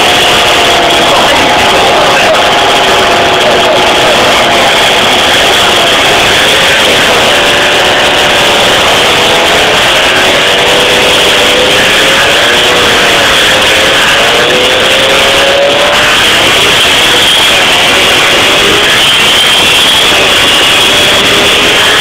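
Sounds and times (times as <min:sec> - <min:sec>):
two-stroke moped engine running hard: 0:00.0 - 0:22.0.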